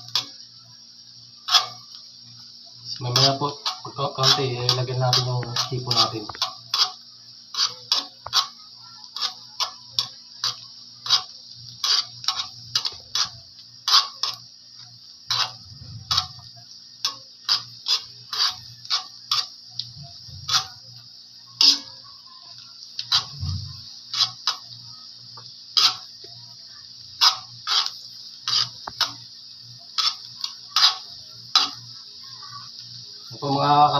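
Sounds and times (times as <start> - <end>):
garlic sizzling in butter: 0.0 - 33.9.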